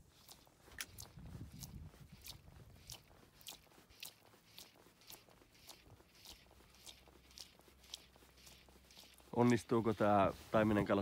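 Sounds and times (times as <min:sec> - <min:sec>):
fly line rasping through rod guides: 0:00.0 - 0:11.0.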